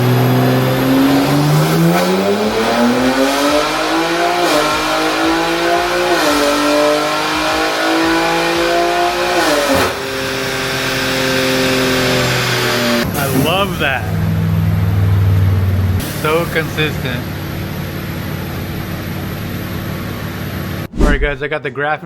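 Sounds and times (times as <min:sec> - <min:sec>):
car engine revving: 0:00.0 - 0:21.4.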